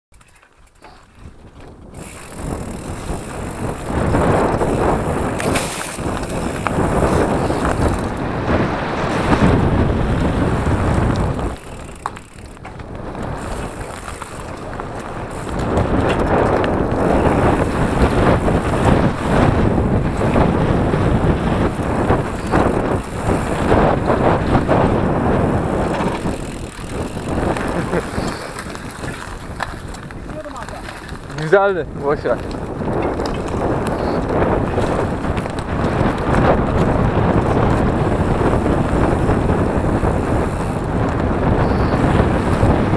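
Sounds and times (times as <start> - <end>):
bike rattling: 0.1 - 42.9
tyres crunching over dirt: 0.1 - 42.9
wind buffeting microphone: 0.8 - 42.9.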